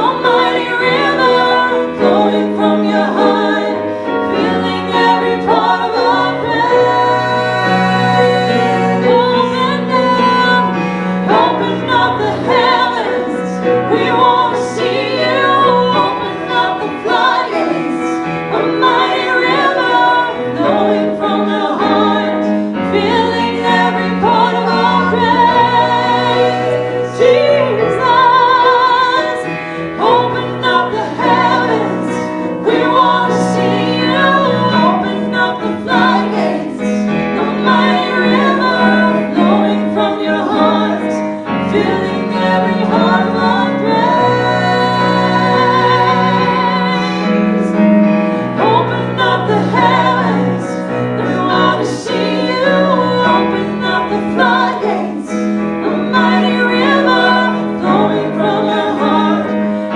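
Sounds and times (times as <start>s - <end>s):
gospel choir singing: 0.0s - 59.9s
piano accompaniment: 0.0s - 59.9s.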